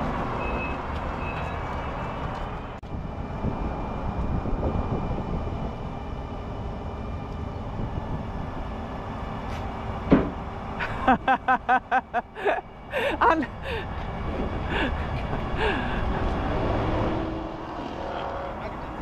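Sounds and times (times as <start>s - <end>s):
forklift engine running: 2.6s - 17.8s.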